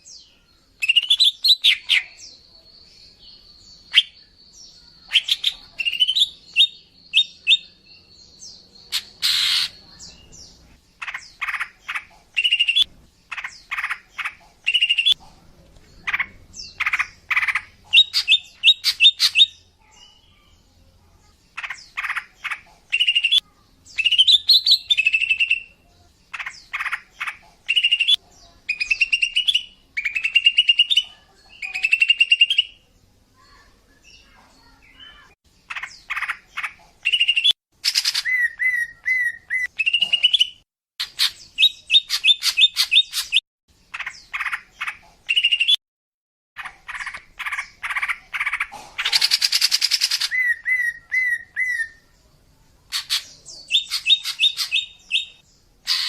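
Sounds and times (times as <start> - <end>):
bird chattering and chirping: 0.8 - 2.4, 3.4 - 15.3, 15.9 - 20.6, 21.3 - 45.8, 46.6 - 52.2, 52.9 - 56.0.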